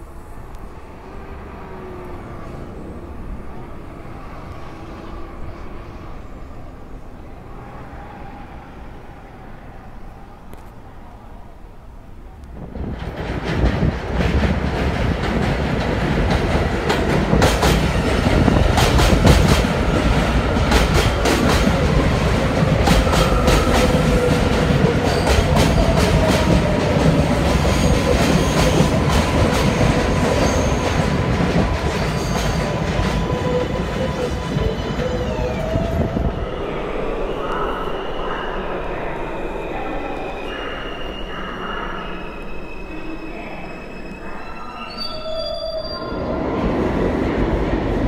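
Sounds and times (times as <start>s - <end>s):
train rumble: 0.0s - 44.9s.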